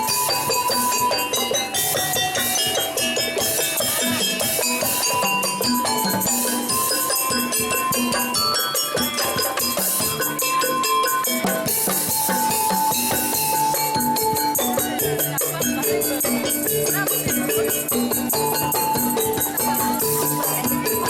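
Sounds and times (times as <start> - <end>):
fast rhythmic drumming: 0.0 - 21.0.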